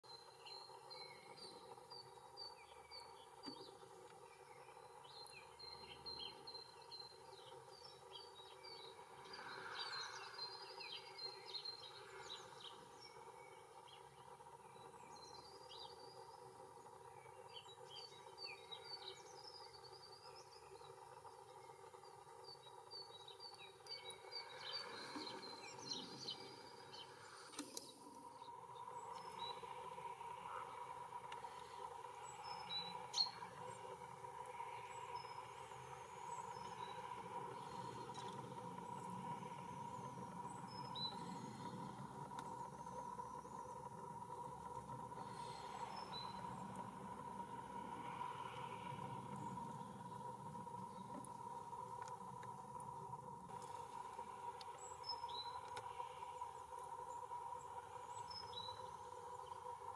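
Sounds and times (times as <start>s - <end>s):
faint steady hum: 0.0s - 59.9s
small birds chirping: 0.0s - 59.9s.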